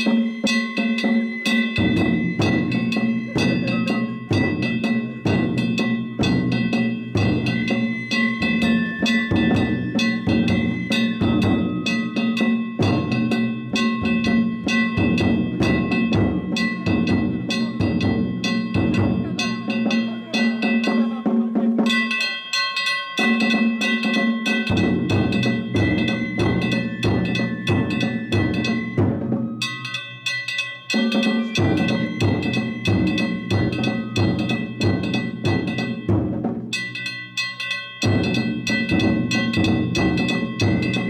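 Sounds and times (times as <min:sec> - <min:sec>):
hand-struck gongs ringing: 0:00.0 - 0:41.0
taiko drums beating fast rhythm: 0:00.0 - 0:41.0.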